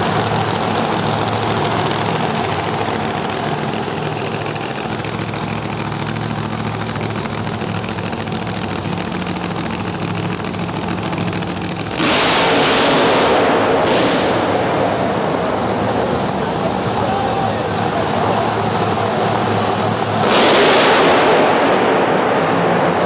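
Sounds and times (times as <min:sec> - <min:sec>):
dragster engine idling and revving: 0:00.0 - 0:23.0.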